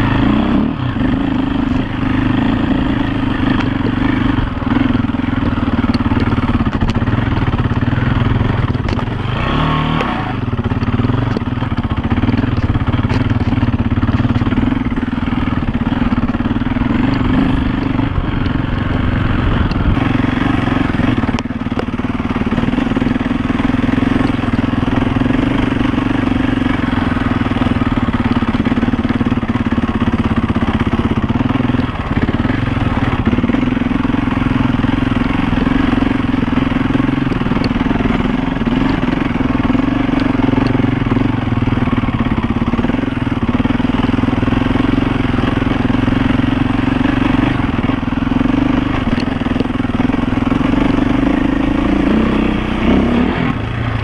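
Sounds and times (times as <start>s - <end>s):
motorcycle engine under load: 0.0s - 54.0s.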